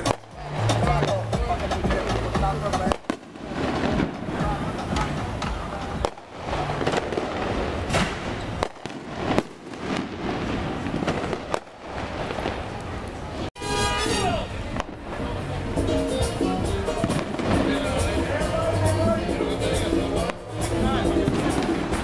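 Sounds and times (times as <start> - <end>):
fireworks bangs and crackles: 0.0 - 13.5, 14.6 - 22.0.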